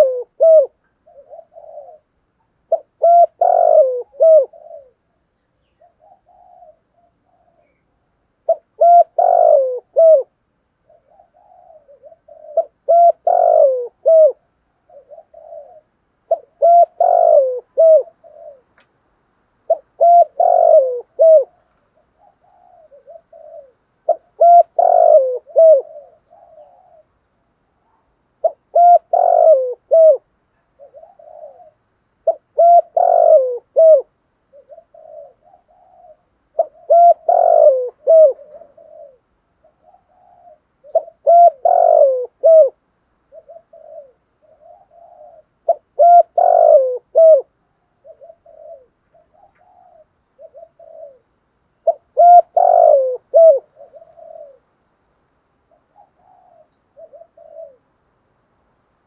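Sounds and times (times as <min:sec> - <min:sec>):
dove cooing: 0:00.0 - 0:18.9, 0:19.6 - 0:54.9, 0:55.6 - 0:58.0.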